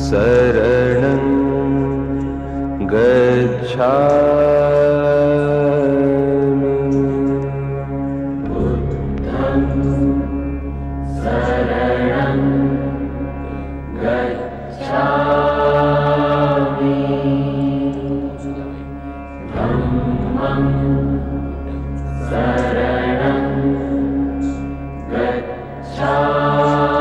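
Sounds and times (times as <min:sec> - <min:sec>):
steady low drone: 0:00.0 - 0:27.0.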